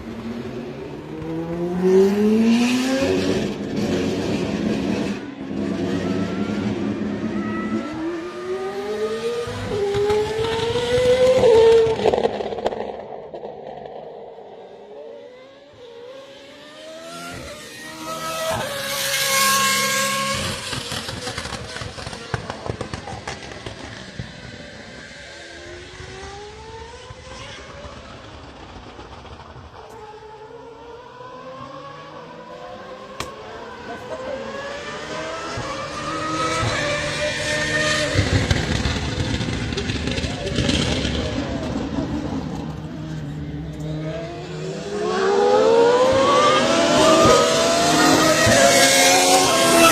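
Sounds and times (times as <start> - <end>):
racing car engine at high revs: 0.0 - 49.9.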